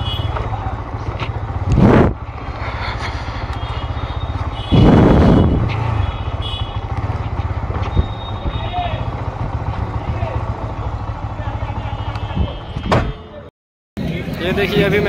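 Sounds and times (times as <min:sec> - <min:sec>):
motorcycle engine running slowly: 0:00.0 - 0:12.3.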